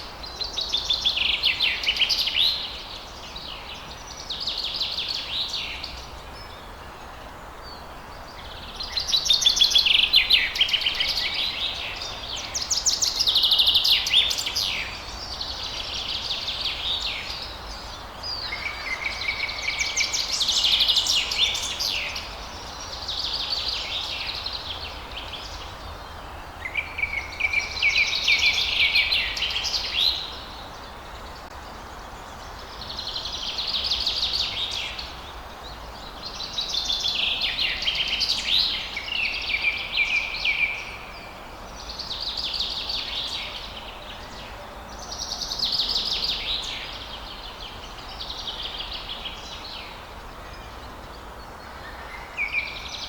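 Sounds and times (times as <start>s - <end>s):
low background hiss: 0.0s - 53.0s
songbirds chirping: 0.0s - 53.0s.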